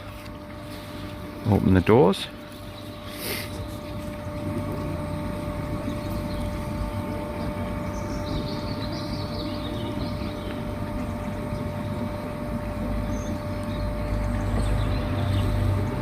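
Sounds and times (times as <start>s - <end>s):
constant motor whine: 0.0s - 16.0s
low mechanical motor drone: 0.0s - 16.0s.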